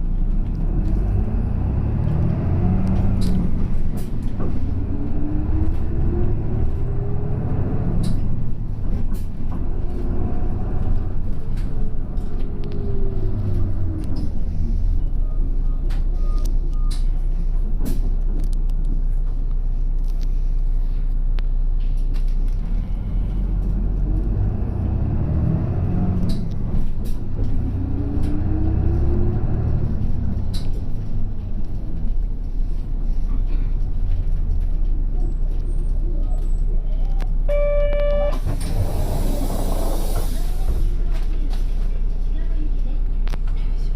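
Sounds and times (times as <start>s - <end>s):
bus engine and drivetrain whine: 0.0s - 43.9s.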